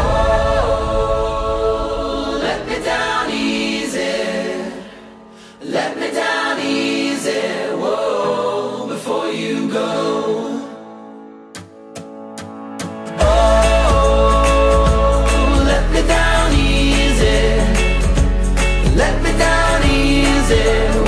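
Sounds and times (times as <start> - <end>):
song with choir-like singing: 0.0 - 11.4, 13.0 - 21.0.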